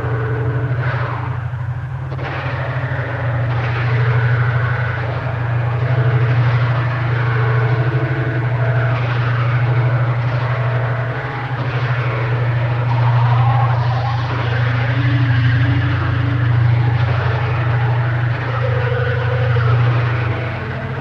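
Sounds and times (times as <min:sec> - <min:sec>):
faint wavering tones: 0:00.0 - 0:21.0
low fluttering drone: 0:00.0 - 0:21.0.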